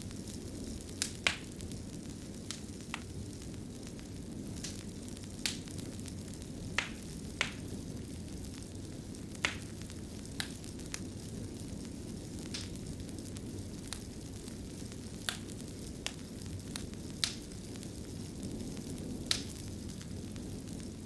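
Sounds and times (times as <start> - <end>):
fire crackling and popping: 0.0 - 21.0
wood fire rumbling: 0.0 - 21.0.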